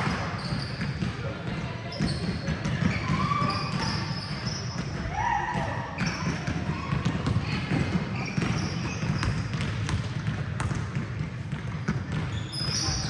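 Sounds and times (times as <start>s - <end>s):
sneaker squeaks: 0.0s - 5.1s, 5.8s - 10.8s, 11.4s - 13.0s
basketballs bouncing: 0.0s - 13.0s
indoor hall noise: 0.0s - 13.0s.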